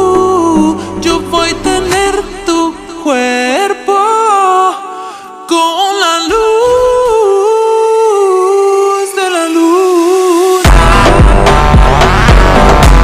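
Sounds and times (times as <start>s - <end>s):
person singing a melody: 0.0s - 13.0s.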